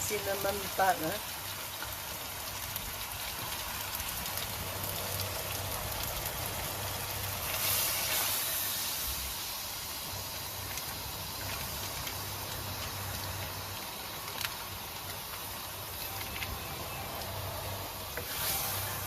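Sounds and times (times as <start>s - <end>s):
curry sizzling and bubbling in pot: 0.0s - 19.0s.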